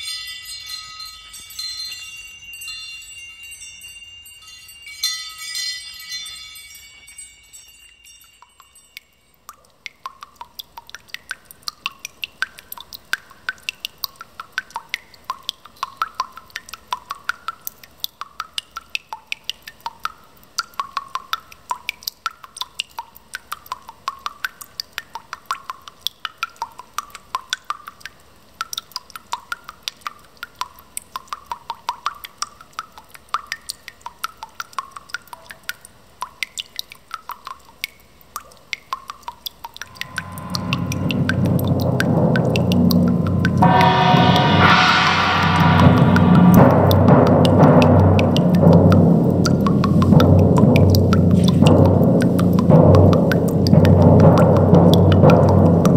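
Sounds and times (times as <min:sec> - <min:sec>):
water dripping: 0:07.0 - 0:55.9.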